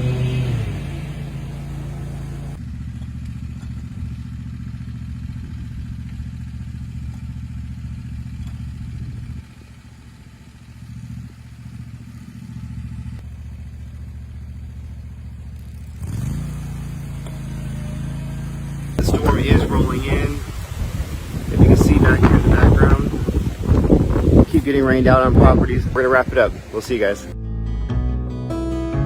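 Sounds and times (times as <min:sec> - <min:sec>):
riding lawn mower engine running: 0:00.0 - 0:27.4.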